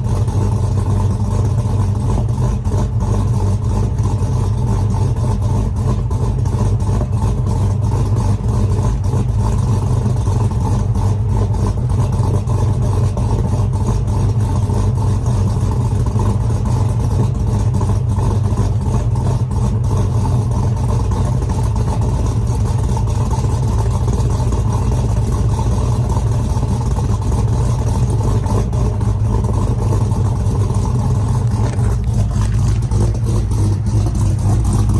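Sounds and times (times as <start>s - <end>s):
pickup truck engine idling: 0.0s - 34.9s.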